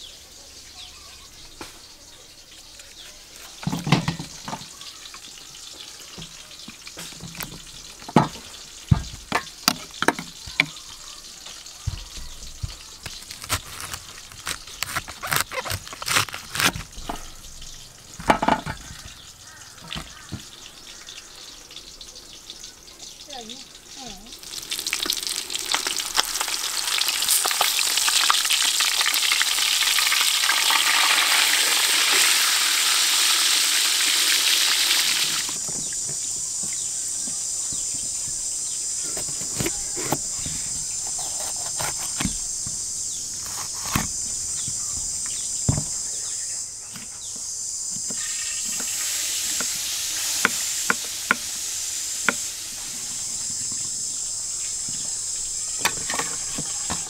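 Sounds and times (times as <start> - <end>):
food sizzling in hot oil: 0.0 - 57.0
high insect drone: 0.0 - 57.0.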